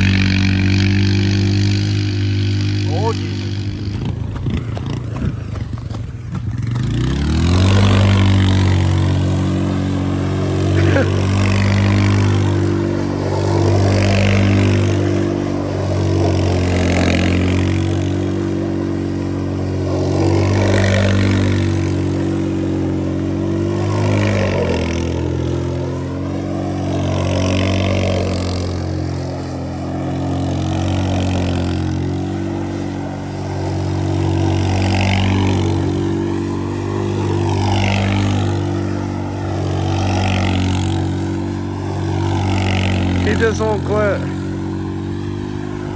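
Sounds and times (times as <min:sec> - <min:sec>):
car engine revving high: 0:00.0 - 0:45.9.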